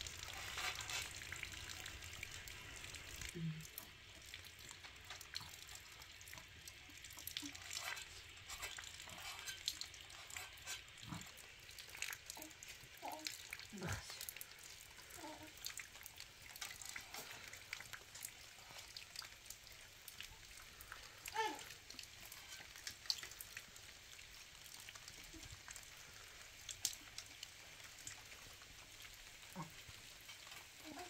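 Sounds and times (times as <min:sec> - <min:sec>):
light rain pattering: 0:00.0 - 0:31.0
sharp drips: 0:00.0 - 0:31.0.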